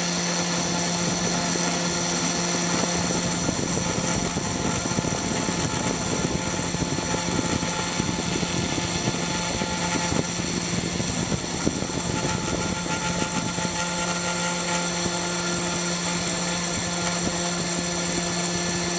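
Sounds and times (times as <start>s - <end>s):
end mill rasping through metal: 0.0s - 18.9s
spindle motor whine: 0.0s - 18.9s.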